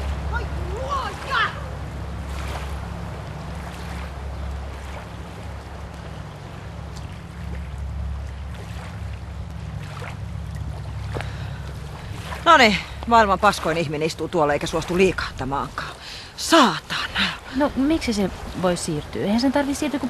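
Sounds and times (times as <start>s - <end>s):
hiss of wind and water: 0.0s - 20.0s.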